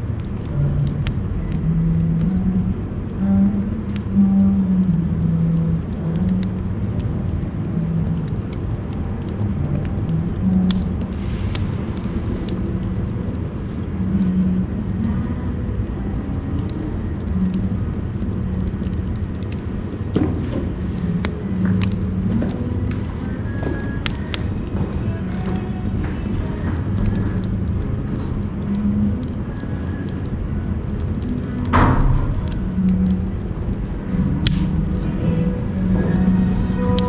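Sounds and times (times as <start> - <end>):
fire rumbling in a stove: 0.0 - 37.0
firewood crackling and popping: 0.0 - 37.0.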